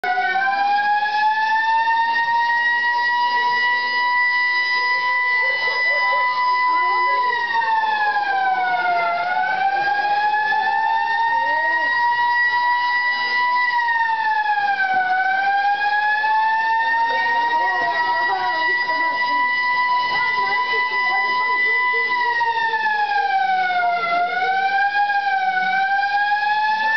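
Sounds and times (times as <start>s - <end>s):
alarm siren wailing: 0.0s - 26.9s
faint voices: 0.0s - 26.9s.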